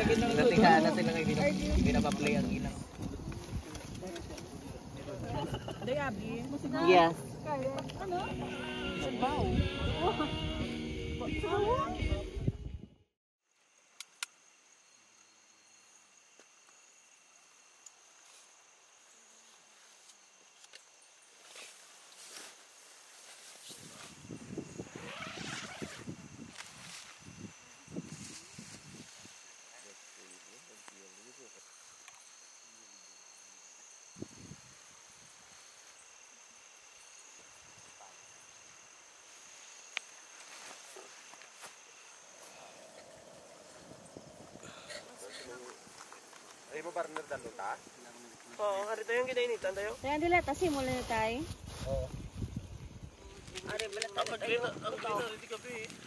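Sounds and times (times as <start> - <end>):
high-pitched insect chorus: 0.0 - 12.5, 13.4 - 56.0.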